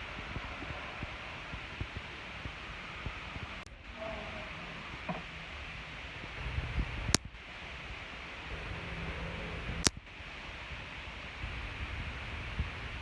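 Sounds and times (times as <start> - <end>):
hiss and low rumble: 0.0 - 13.0.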